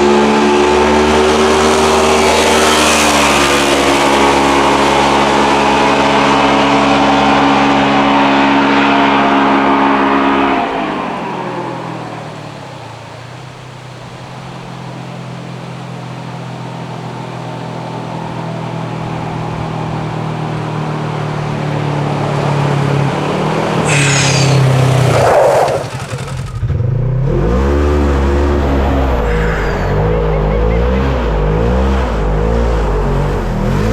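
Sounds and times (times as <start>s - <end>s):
rushing noise: 0.0s - 27.0s, 27.6s - 31.4s
vehicle engine running and revving: 0.0s - 33.9s.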